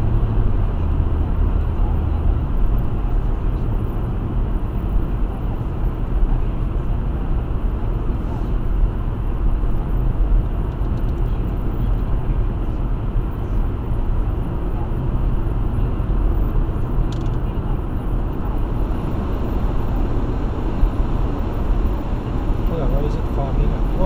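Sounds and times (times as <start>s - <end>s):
road and engine noise in car: 0.0s - 24.0s.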